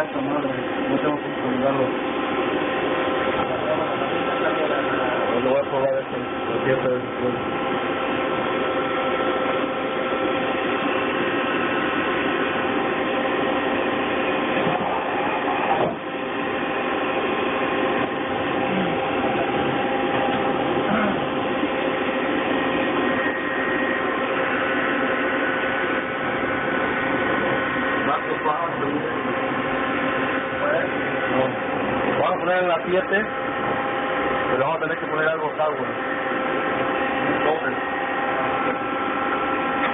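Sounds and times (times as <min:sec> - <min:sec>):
lathe whining and humming: 0:00.0 - 0:39.9.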